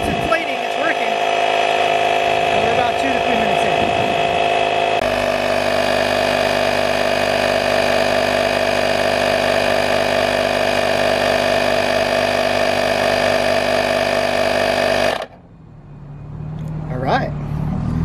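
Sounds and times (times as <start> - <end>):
air compressor motor hum: 0.0 - 15.4.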